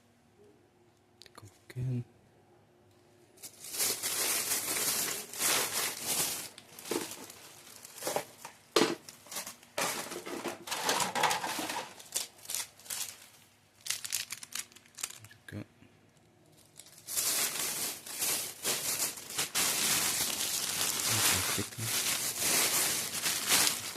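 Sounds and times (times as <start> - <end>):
plastic packaging crinkling: 3.4 - 15.4, 16.2 - 23.9.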